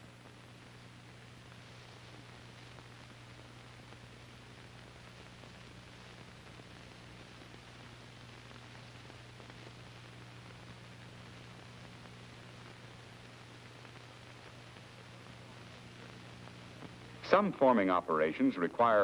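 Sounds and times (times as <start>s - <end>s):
film soundtrack hiss: 0.0s - 19.0s
low mains hum: 0.0s - 19.0s.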